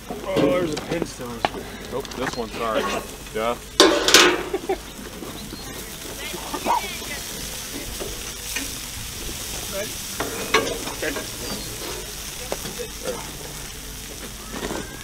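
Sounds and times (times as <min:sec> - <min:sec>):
fat sizzling on fire: 0:00.0 - 0:15.0.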